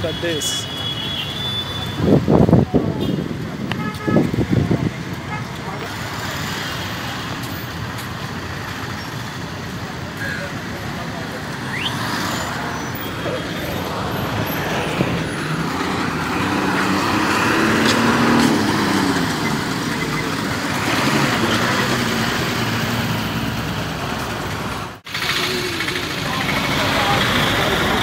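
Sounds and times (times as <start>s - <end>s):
vehicle engines running: 0.0s - 28.0s
truck engine: 3.3s - 28.0s.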